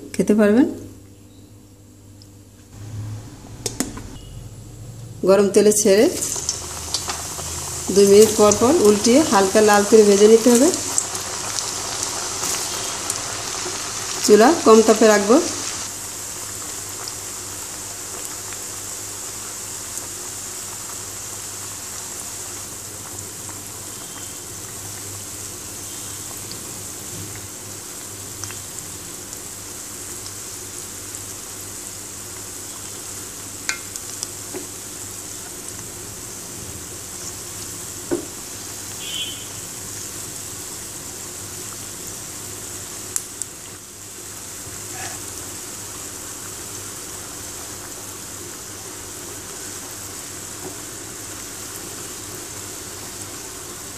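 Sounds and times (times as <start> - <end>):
oil sizzling and bubbling: 1.8 - 53.9.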